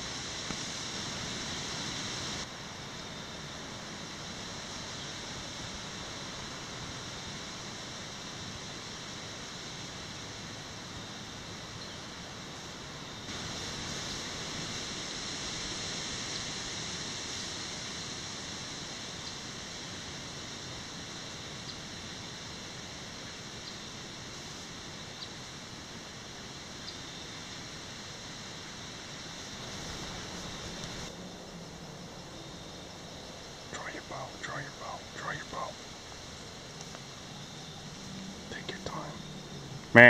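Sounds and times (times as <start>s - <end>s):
outdoor ambient hiss: 0.0s - 40.0s.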